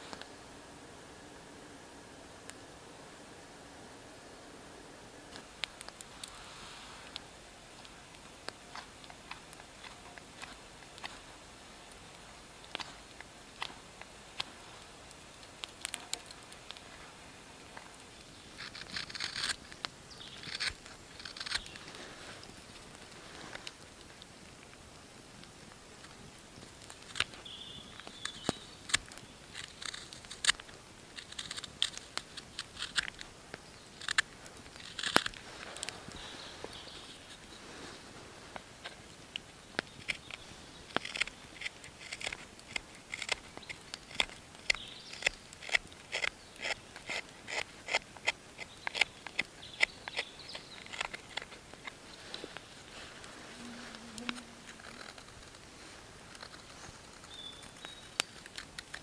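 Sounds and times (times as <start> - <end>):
campfire crackling: 0.0 - 59.0
faint steady hiss: 0.0 - 59.0
knife shaving wood: 5.3 - 24.8, 25.7 - 33.3, 33.9 - 37.5, 38.6 - 59.0.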